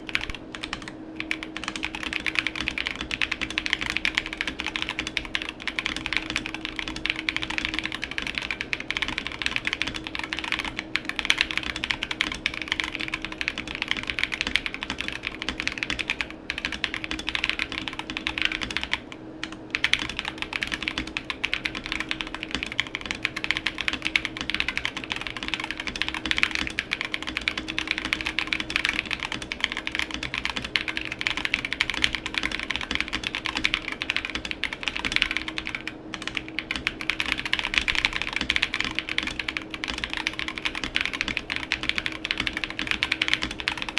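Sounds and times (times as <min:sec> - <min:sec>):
faint steady hum: 0:00.0 - 0:43.9
mechanical keyboard typing: 0:00.0 - 0:43.9.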